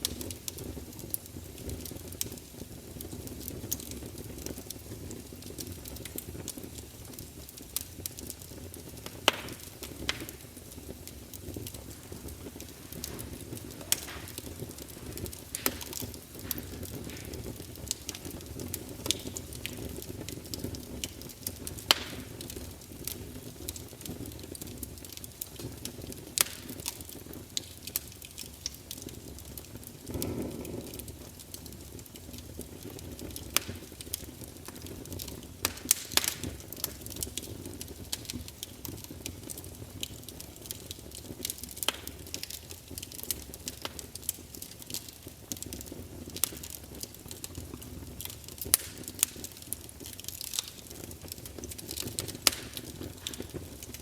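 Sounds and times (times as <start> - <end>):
campfire burning: 0.0 - 54.0
fire crackling and popping: 0.0 - 54.0.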